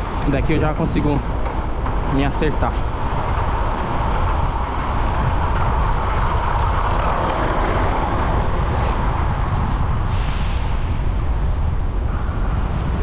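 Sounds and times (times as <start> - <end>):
road and traffic noise: 0.0 - 13.0
wind over microphone: 0.0 - 13.0.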